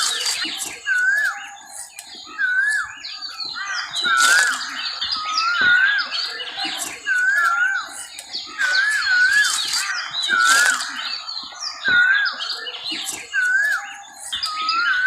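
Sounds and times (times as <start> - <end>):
bird whistling wavy phrase: 0.0 - 15.0
high bird chirps: 0.0 - 15.0.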